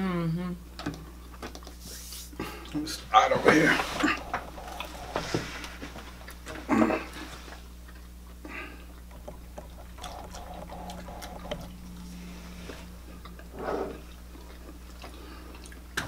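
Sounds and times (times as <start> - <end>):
low electrical hum: 0.0 - 16.0
soft chewing: 0.9 - 16.0.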